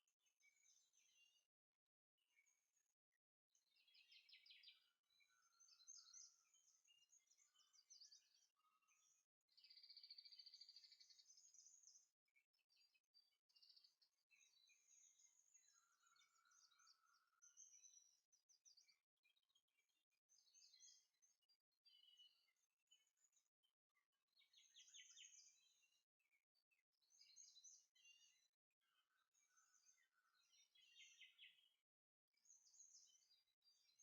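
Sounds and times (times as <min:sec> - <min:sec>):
faint birdsong chirps and trills: 0:00.0 - 0:34.0.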